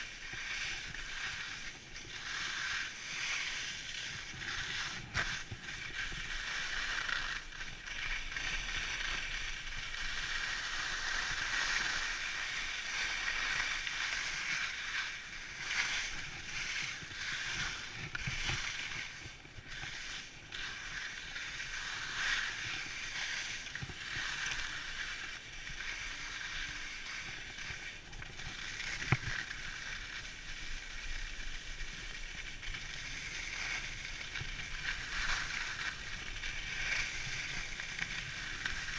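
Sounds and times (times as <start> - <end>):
skis scraping over snow: 0.0 - 38.9.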